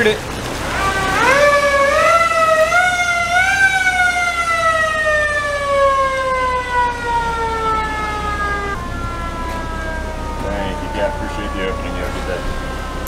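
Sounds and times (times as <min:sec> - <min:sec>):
siren winding down: 0:00.6 - 0:13.0.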